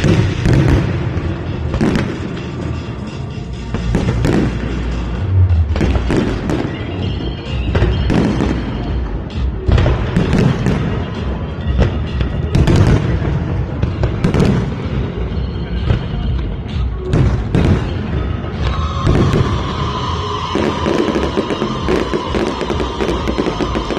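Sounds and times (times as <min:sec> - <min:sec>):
fireworks bursting: 0:00.0 - 0:23.9
music playing: 0:00.0 - 0:23.9.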